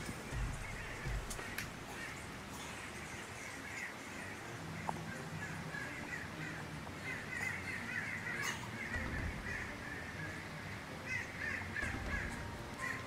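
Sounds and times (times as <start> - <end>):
birds calling: 0.0 - 13.0
faint steady background noise: 0.0 - 13.0.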